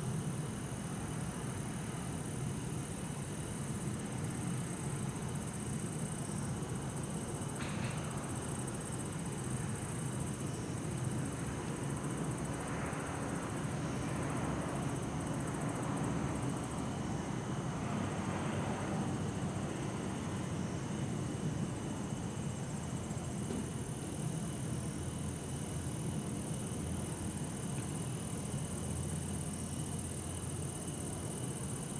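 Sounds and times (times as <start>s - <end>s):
crickets trilling: 0.0s - 31.9s.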